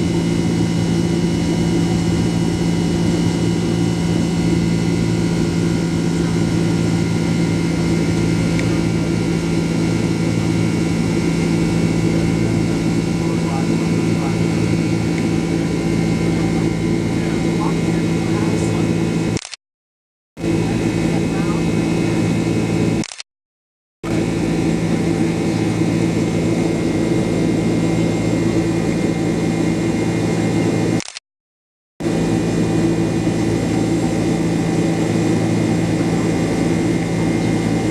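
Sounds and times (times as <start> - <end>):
airliner cabin drone: 0.0 - 19.5, 20.4 - 23.2, 24.0 - 31.2, 32.0 - 37.9.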